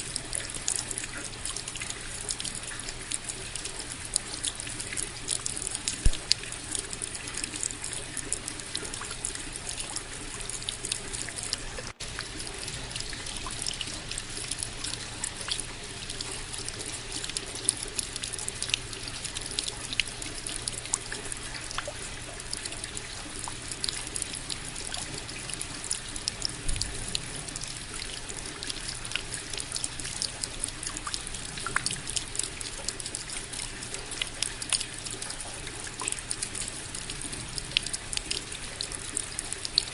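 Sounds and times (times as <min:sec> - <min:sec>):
steady rain falling: 0:00.0 - 0:35.2, 0:36.1 - 0:39.9
raindrops ticking close by: 0:00.0 - 0:39.9.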